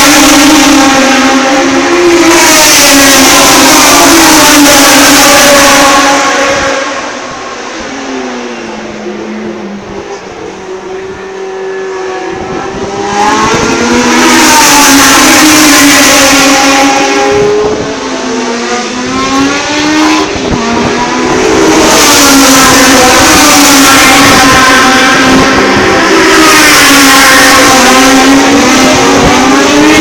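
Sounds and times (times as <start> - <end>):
racing car engines at high revs: 0.0 - 30.0.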